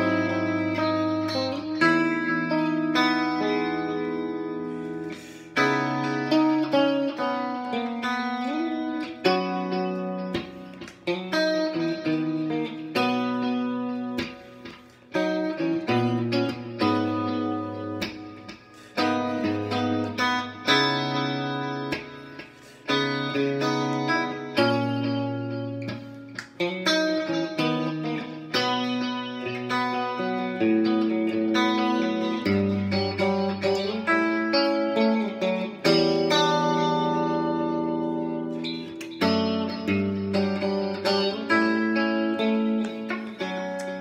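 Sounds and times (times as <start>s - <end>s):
clean electric guitar chords: 0.0s - 44.0s.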